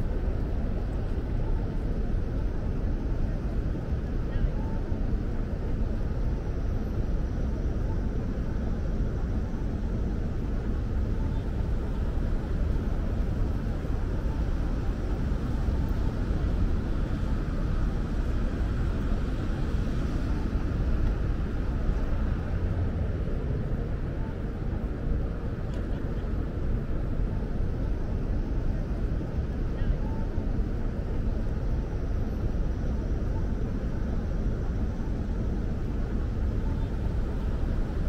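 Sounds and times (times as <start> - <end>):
train rumble and hiss: 0.0 - 38.0.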